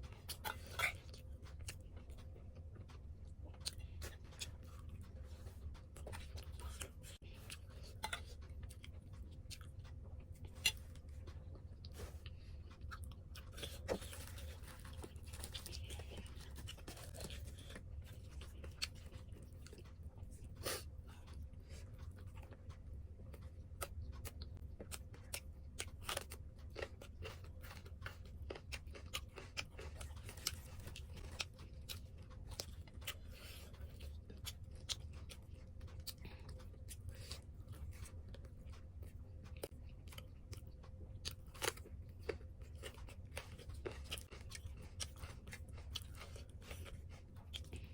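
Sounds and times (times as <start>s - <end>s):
chewing with mouth clicks: 0.0s - 47.9s
low steady hum: 0.0s - 47.9s.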